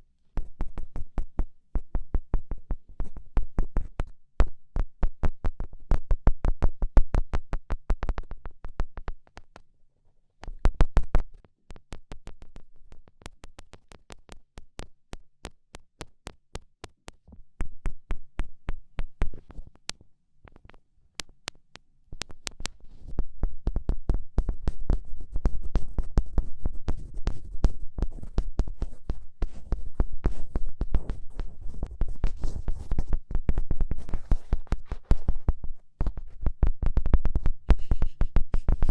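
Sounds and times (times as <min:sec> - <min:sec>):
rapid fingertip taps: 0:00.4 - 0:09.6, 0:10.4 - 0:38.9.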